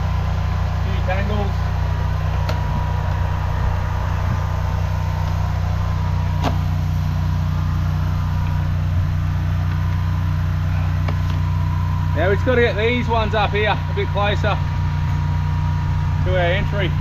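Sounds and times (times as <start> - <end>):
drain jetter engine running: 0.0 - 17.0
faint steady whine: 0.0 - 17.0.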